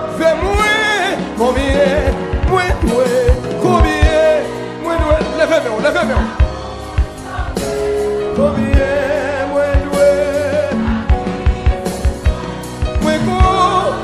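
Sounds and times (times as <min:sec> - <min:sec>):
keyboard chords: 0:00.0 - 0:14.0.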